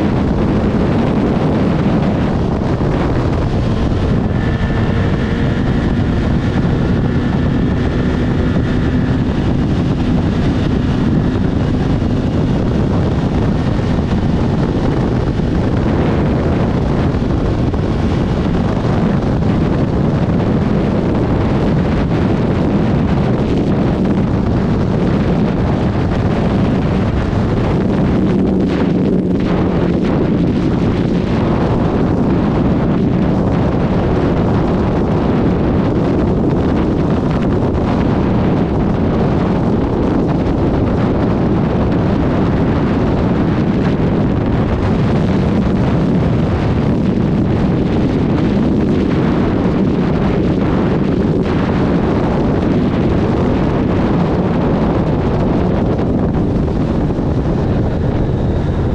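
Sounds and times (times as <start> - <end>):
motorcycle engine droning: 0.0 - 58.9
wind rush on microphone: 0.0 - 58.9.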